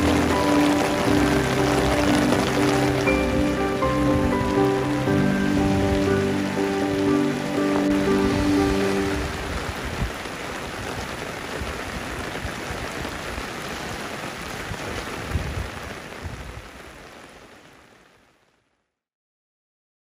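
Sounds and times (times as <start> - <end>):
heavy rain on muddy ground: 0.0 - 18.8.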